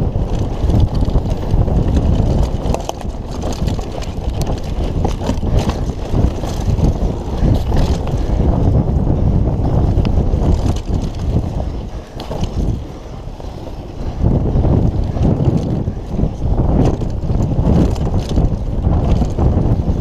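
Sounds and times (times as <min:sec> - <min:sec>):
bike clicks and rattles: 0:00.0 - 0:20.0
tyres rumbling over dirt: 0:00.0 - 0:20.0
wind buffeting microphone: 0:00.0 - 0:20.0.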